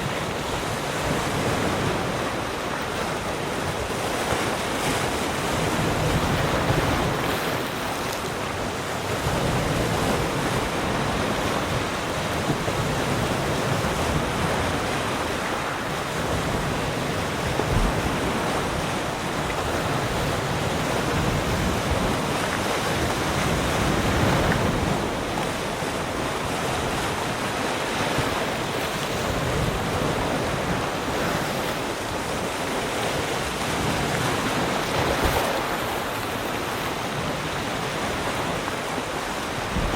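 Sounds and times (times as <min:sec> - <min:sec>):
waves breaking on shore: 0:00.0 - 0:39.9
wind on microphone: 0:00.0 - 0:39.9.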